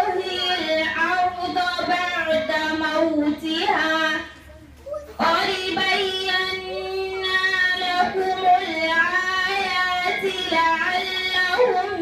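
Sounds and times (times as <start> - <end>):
girl chanting into a microphone: 0.0 - 12.0.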